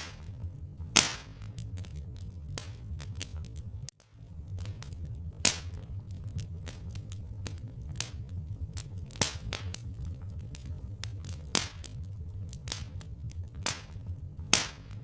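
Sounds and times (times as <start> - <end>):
steady low rumble: 0.0 - 15.0
wood fire crackling and popping: 0.0 - 15.0.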